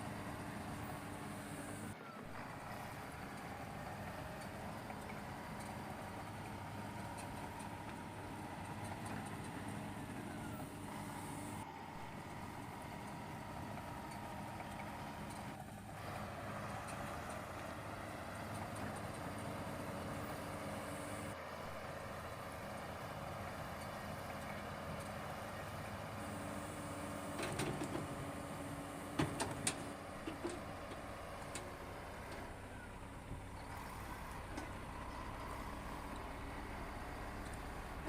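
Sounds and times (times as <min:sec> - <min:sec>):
diesel construction machine running: 0:00.0 - 0:38.0.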